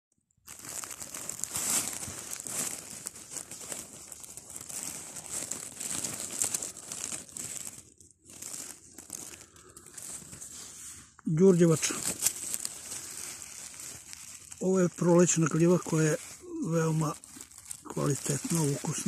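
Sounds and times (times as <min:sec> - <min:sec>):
dry leaves rustling and crackling: 0:00.5 - 0:19.0.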